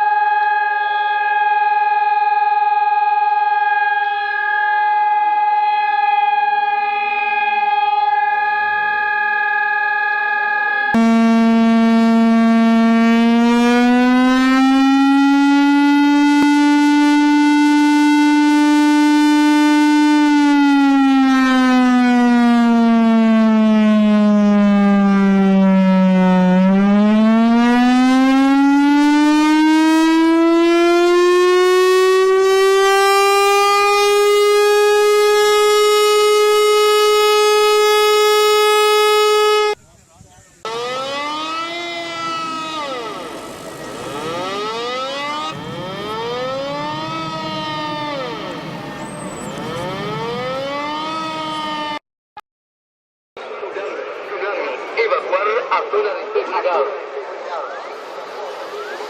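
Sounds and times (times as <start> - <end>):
buzzy siren alarm tone: 0.0 - 39.8, 40.6 - 52.0.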